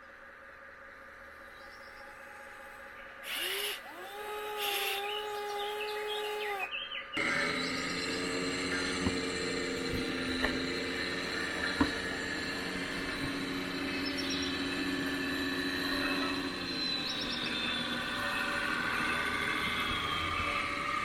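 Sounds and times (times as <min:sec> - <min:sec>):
electric hydraulic pump whining: 0:02.1 - 0:21.0.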